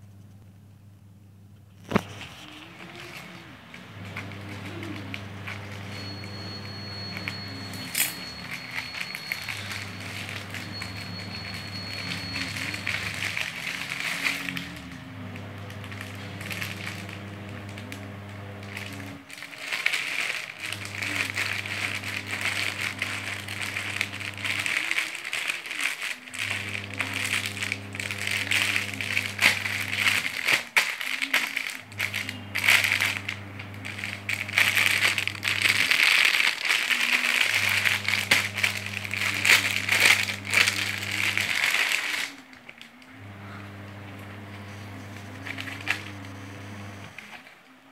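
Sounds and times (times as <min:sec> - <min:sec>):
parcel packaging crinkling: 0:01.8 - 0:47.9.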